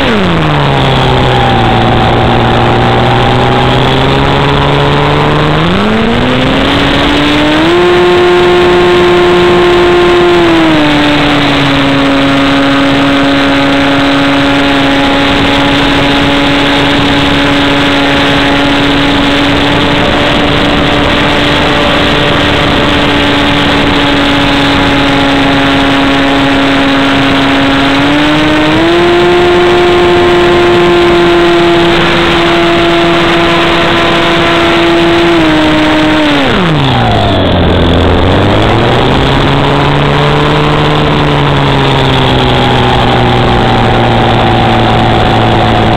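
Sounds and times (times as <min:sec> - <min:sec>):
model airplane motor and propeller: 0:00.0 - 0:45.9.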